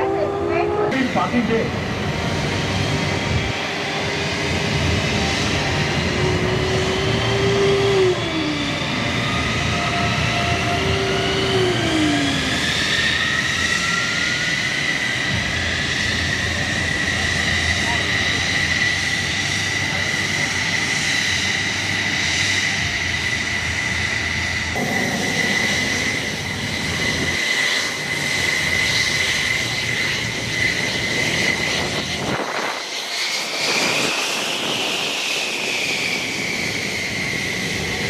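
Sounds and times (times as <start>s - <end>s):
fighter jet engines roaring: 0.0s - 38.0s.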